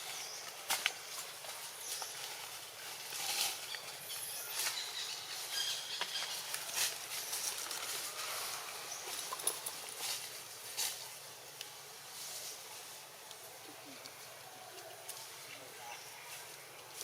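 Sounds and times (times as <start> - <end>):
rustling and crackling: 0.0 - 17.0.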